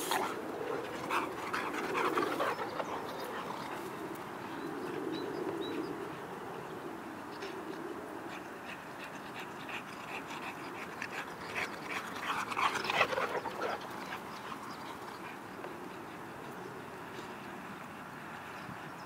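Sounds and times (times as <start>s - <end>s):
dogs panting: 0.0s - 6.3s, 7.3s - 17.9s.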